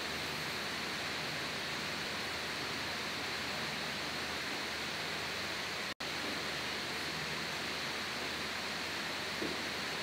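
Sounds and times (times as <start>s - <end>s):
room tone hiss: 0.0s - 10.0s.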